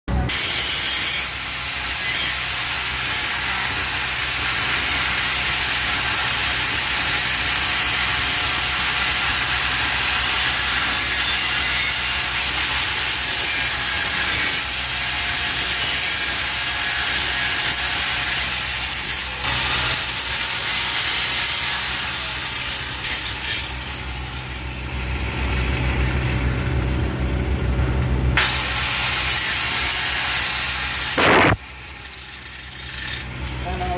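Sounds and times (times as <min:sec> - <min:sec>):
welding machine hum: 0:00.1 - 0:33.9
welding arc hissing: 0:00.3 - 0:27.4, 0:28.4 - 0:33.8.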